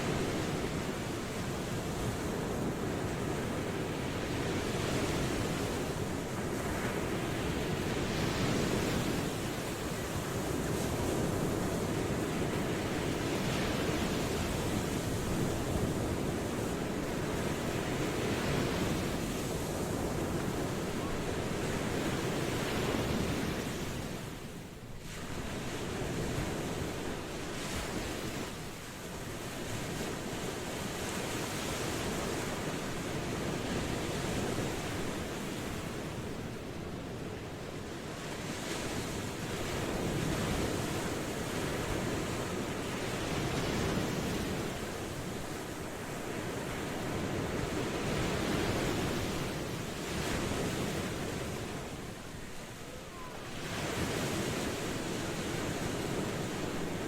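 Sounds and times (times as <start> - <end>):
ocean waves washing ashore: 0.0 - 57.0.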